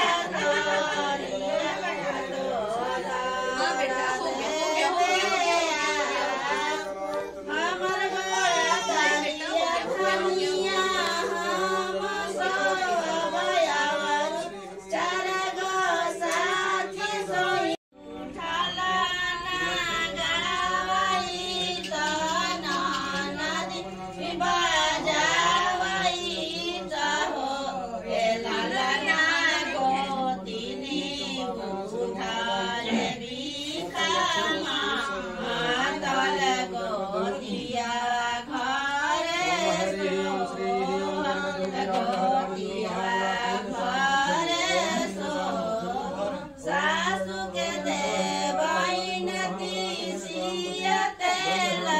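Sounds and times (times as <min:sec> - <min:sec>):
group singing devotional song: 0:00.0 - 0:51.9.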